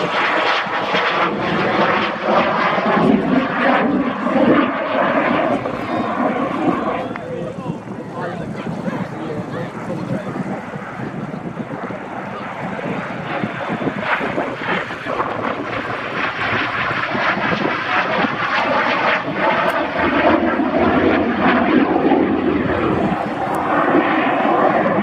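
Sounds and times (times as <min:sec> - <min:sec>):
aircraft engine rumbling: 0:00.0 - 0:25.0.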